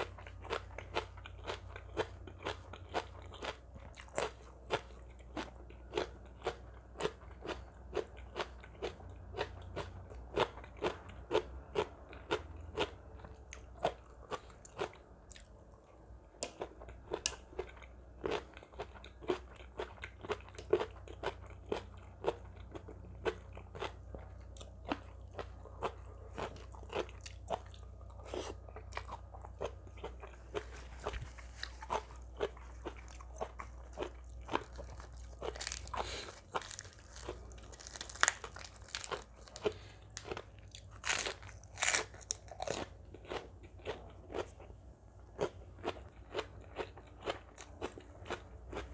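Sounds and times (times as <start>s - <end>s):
person chewing crunchy food: 0.0s - 15.8s, 16.4s - 48.9s.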